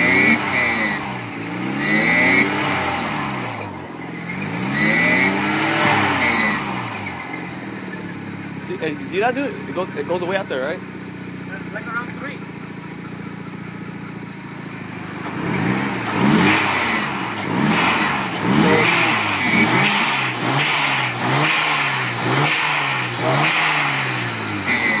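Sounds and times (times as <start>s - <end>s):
rotary engine idling and revving: 0.0s - 25.0s.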